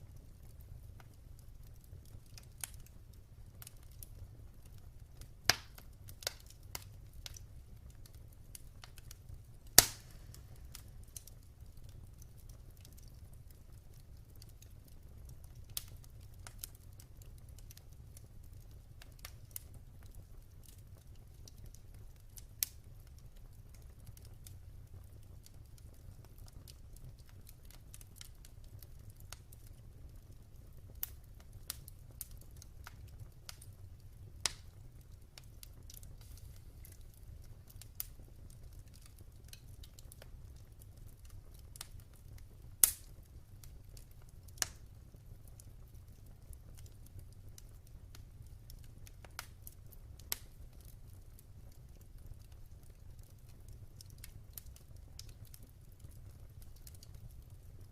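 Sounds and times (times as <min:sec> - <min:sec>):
fire crackles and pops: 0:00.0 - 0:57.9
wood fire rumbling: 0:00.0 - 0:57.9.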